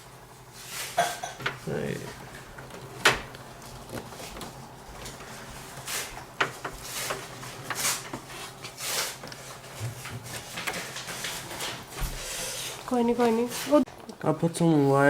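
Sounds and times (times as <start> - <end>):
wires rustling: 0.4 - 15.0.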